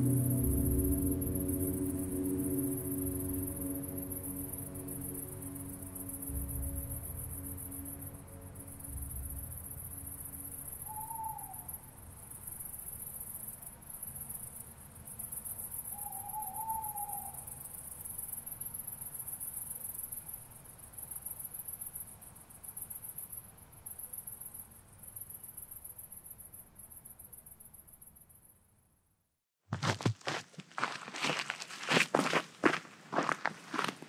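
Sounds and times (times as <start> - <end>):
distant night bird calls: 0.0 - 28.0
crickets trilling: 0.0 - 28.5, 29.8 - 34.0.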